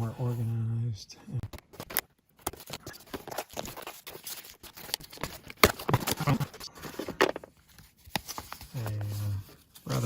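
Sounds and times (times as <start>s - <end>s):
cardboard packaging rustling: 1.7s - 10.0s.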